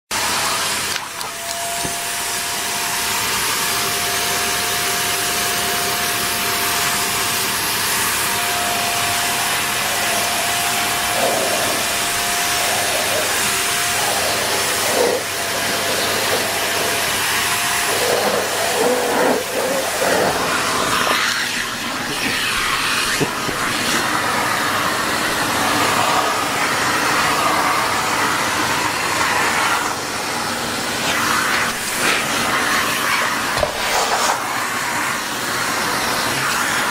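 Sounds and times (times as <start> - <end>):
vacuum cleaner running: 0.1 - 36.9.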